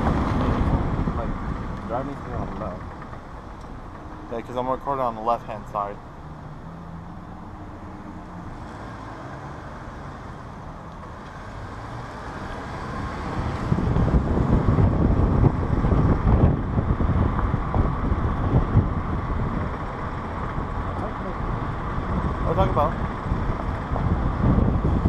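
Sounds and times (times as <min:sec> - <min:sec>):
wind rumble on microphone: 0:00.0 - 0:04.4, 0:06.0 - 0:25.0
road noise inside moving car: 0:00.0 - 0:25.0.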